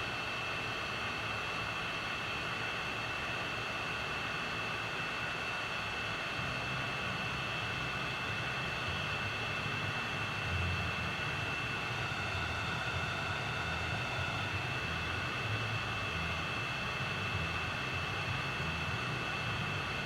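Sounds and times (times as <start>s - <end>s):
machine motor whine and hiss: 0.0s - 20.0s.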